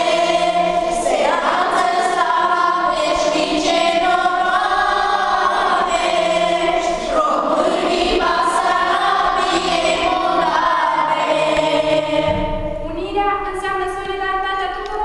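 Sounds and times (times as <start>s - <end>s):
children's choir singing: 0.0s - 12.8s.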